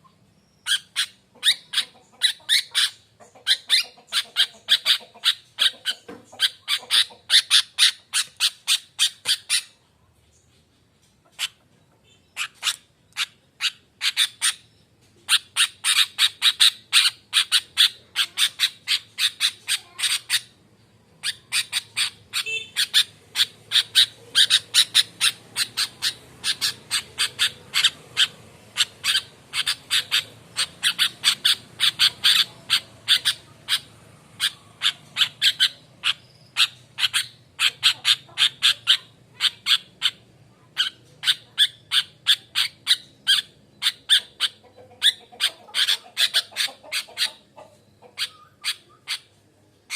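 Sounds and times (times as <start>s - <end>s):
bulbul chattering calls: 0.0s - 10.4s, 11.2s - 20.6s, 21.2s - 49.9s.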